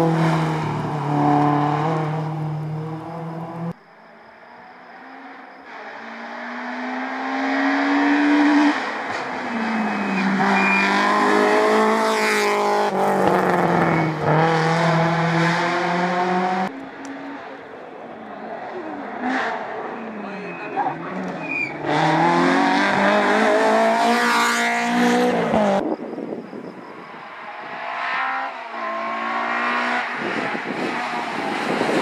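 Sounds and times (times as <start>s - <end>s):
rally car engine at full throttle: 0.0s - 32.0s.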